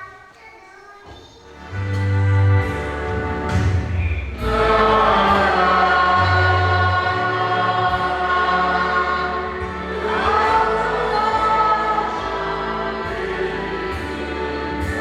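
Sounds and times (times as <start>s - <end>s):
choir singing a slow hymn: 2.6s - 15.0s.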